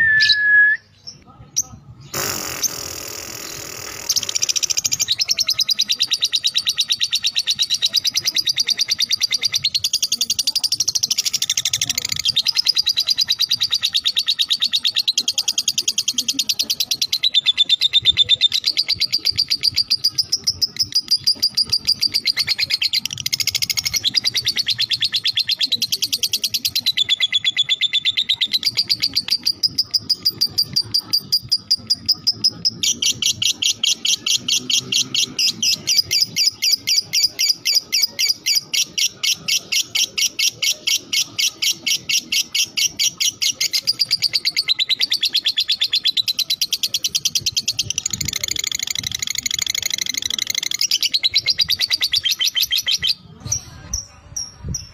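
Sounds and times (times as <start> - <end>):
lovebird chattering trill: 1.1 - 53.3.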